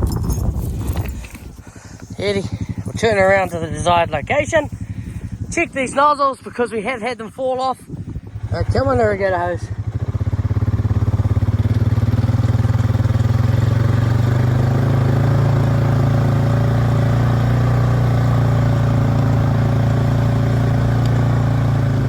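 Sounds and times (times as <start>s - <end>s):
farm vehicle engine running: 0.0s - 22.0s.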